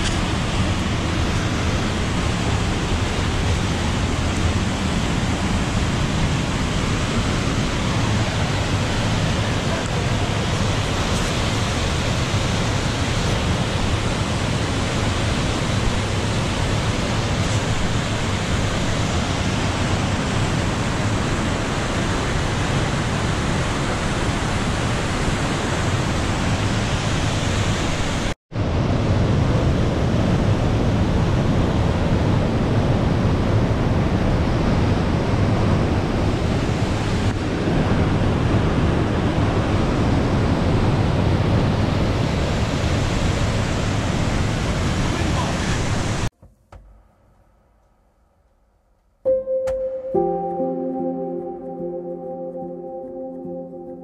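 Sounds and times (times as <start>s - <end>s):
waterfall rushing into pool: 0.0s - 46.3s.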